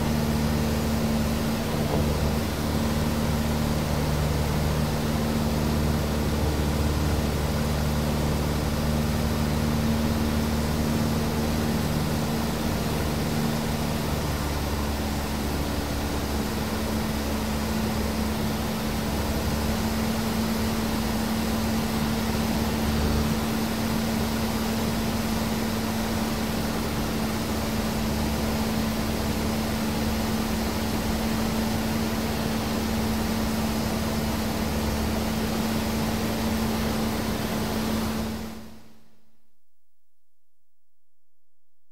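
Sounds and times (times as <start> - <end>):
small plane engine and propeller: 0.0 - 39.1.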